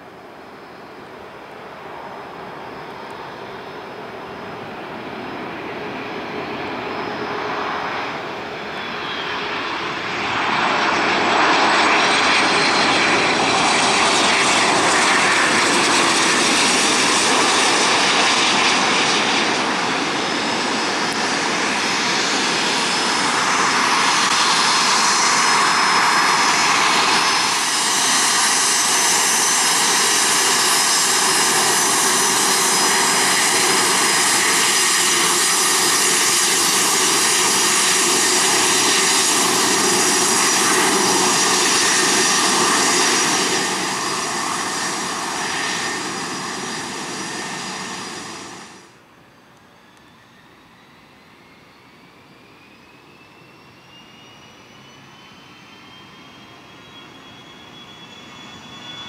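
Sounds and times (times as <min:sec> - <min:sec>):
jet airliner roaring past: 0:00.0 - 0:59.0
jet engines whining on runway: 0:00.0 - 0:59.0.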